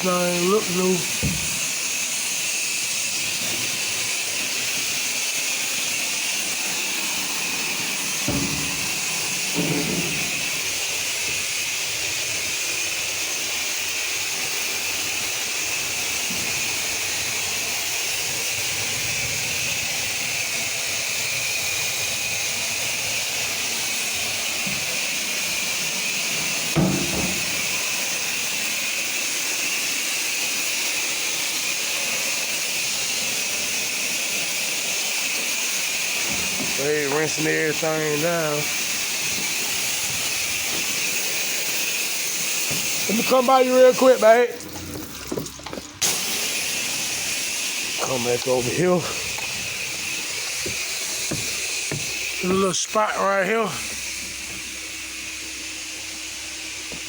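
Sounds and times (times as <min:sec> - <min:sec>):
pressure washer spray hissing: 0:00.0 - 0:44.6, 0:46.0 - 0:57.0.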